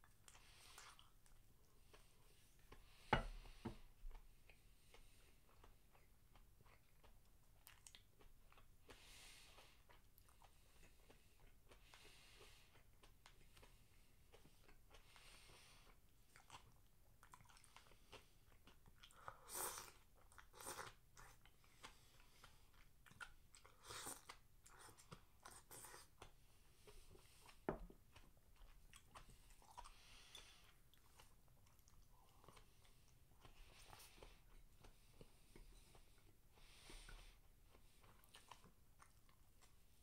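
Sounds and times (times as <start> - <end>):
person chewing: 0.0 - 40.0.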